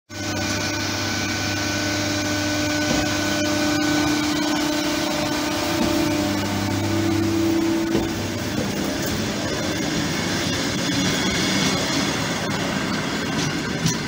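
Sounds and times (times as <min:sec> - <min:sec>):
train electrical hum and whir: 0:00.1 - 0:14.0.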